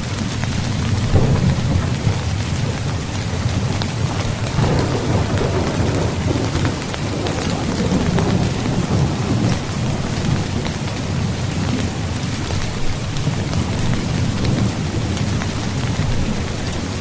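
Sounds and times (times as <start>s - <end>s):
low rumble of thunder: 0.0s - 17.0s
rain on a tent: 0.0s - 17.0s.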